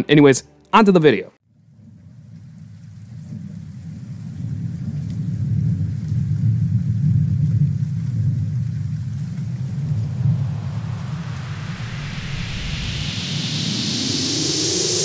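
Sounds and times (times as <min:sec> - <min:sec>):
rain hiss: 0:01.6 - 0:15.0
rolling thunder: 0:02.7 - 0:15.0.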